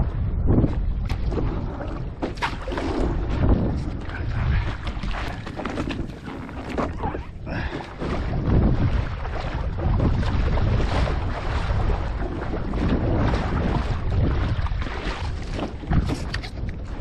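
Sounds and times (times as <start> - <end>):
water splashing and sloshing: 0.0 - 17.0
wind buffeting microphone: 0.0 - 17.0.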